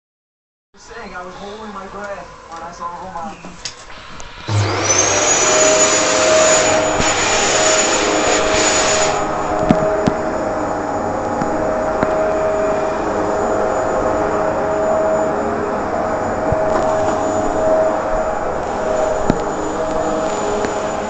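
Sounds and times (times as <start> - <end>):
vacuum cleaner running: 2.8 - 21.0.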